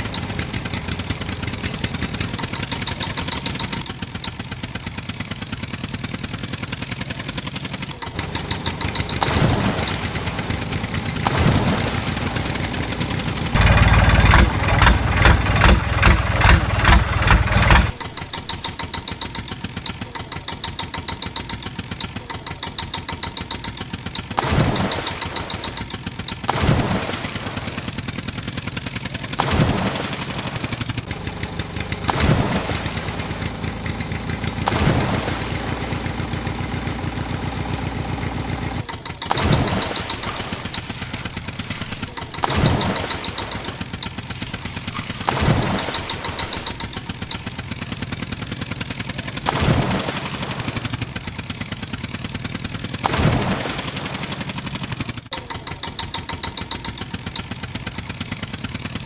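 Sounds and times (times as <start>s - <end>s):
tractor engine chugging: 0.0s - 24.2s, 30.8s - 39.0s, 39.7s - 49.4s, 50.1s - 53.0s, 54.3s - 59.0s.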